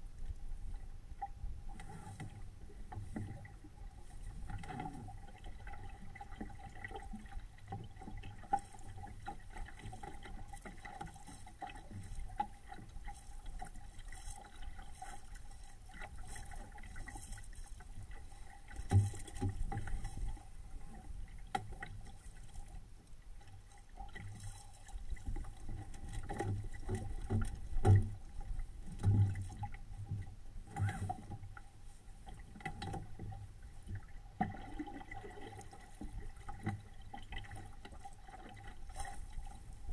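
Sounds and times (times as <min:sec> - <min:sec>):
water lapping against hull: 0:00.0 - 0:39.9
waves thudding on hull: 0:01.2 - 0:22.6, 0:23.9 - 0:39.9.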